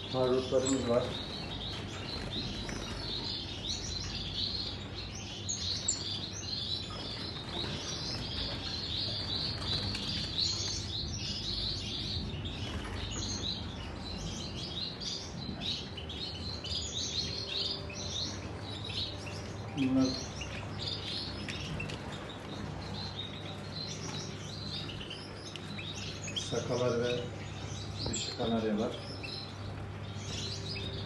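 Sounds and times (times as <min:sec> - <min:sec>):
finches chirping: 0:00.0 - 0:31.0.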